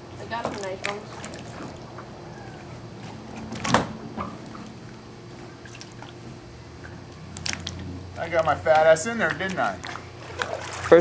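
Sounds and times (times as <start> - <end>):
water lapping around kayak: 0.2 - 11.0.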